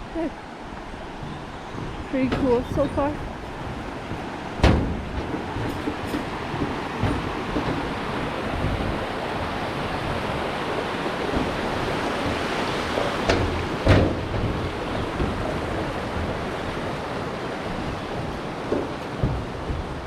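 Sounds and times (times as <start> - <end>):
stream water rushing: 0.0 - 20.0
short knocks: 1.2 - 9.2, 11.0 - 20.0.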